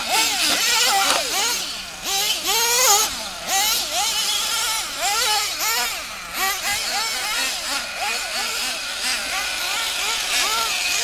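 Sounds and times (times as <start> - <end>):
small engines revving whine: 0.0 - 11.0.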